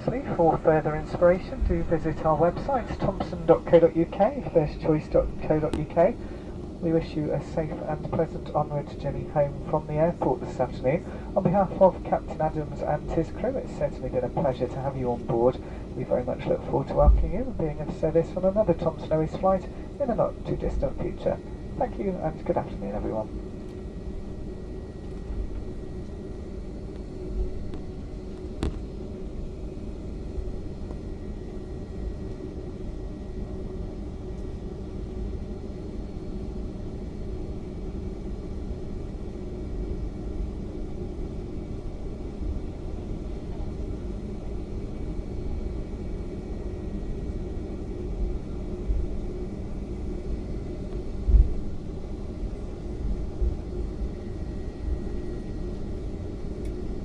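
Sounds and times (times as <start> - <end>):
airliner cabin rumble and hum: 0.0 - 57.0.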